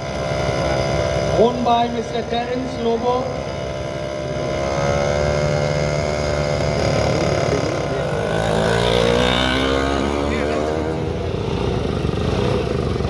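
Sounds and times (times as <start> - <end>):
two-stroke scooter engine passing: 0.0 - 13.0.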